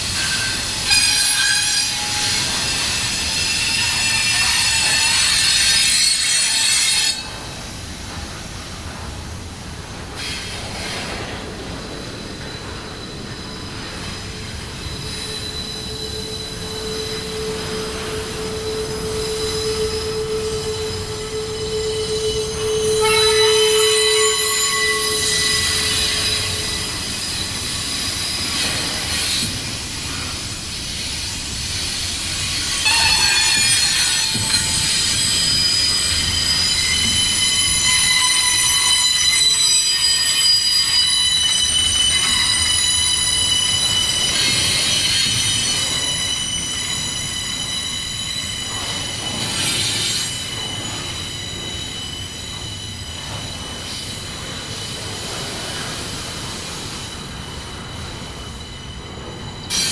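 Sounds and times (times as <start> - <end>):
low rumble of train: 0.0 - 59.9
train wheels squealing on rails: 0.0 - 59.9.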